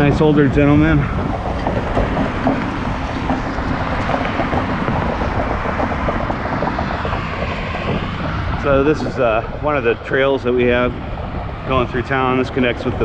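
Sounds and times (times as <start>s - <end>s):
bicycle ticking and rattle: 0.0s - 13.0s
tyres on pavement: 0.0s - 13.0s
wind rushing: 0.0s - 13.0s.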